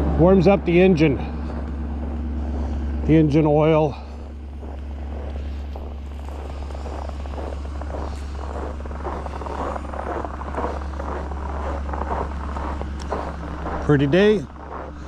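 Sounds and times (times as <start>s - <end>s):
truck engine idling: 0.0s - 15.0s
crackly noises: 1.2s - 3.2s, 3.8s - 15.0s.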